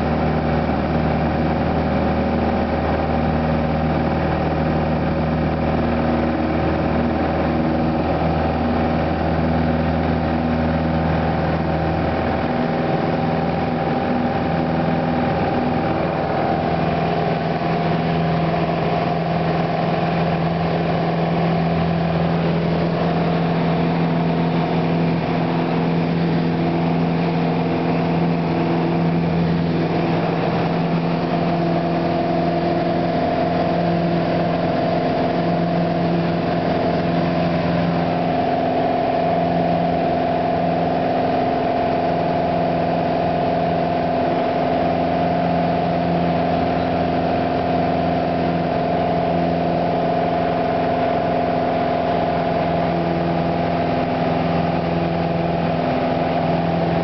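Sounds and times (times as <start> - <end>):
light aircraft engine drone in cabin: 0.0 - 57.0.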